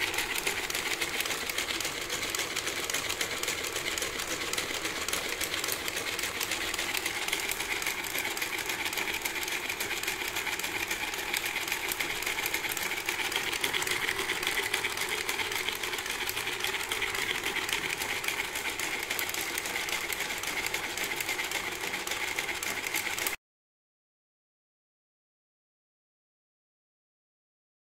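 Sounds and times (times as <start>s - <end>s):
model engine rapid clatter: 0.0s - 23.4s.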